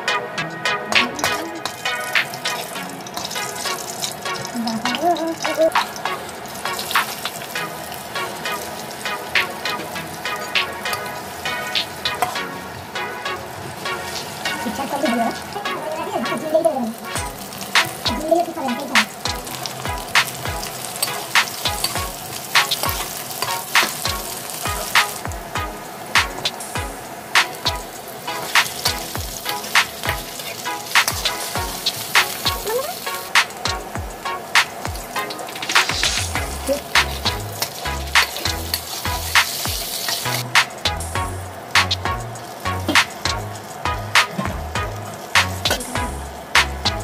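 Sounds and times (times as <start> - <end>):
background music with steady beat: 0.0 - 47.0
seeds sizzling in hot oil: 1.1 - 47.0.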